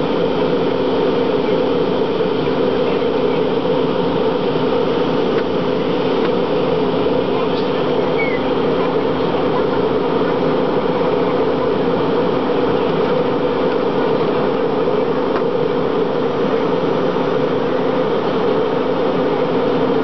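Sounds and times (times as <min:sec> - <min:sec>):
jet airliner cabin noise: 0:00.0 - 0:20.0.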